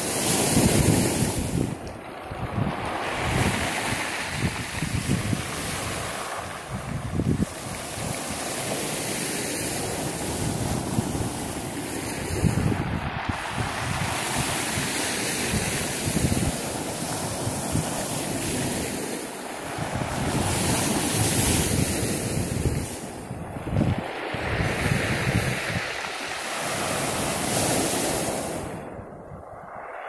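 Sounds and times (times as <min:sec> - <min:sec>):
waves washing up pebble beach: 0:00.0 - 0:30.0
wind buffeting microphone: 0:00.0 - 0:30.0.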